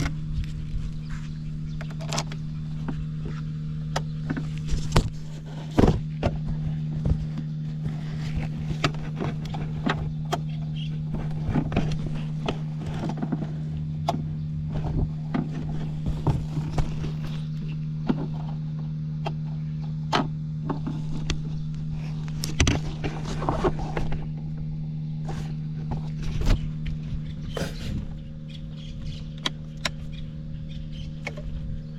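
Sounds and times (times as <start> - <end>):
scooter engine running: 0.0 - 31.9.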